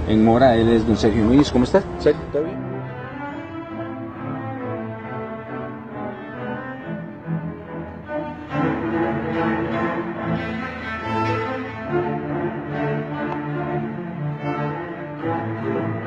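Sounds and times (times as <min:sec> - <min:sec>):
cellos playing held notes: 0:00.0 - 0:16.0
double bass: 0:00.0 - 0:16.0.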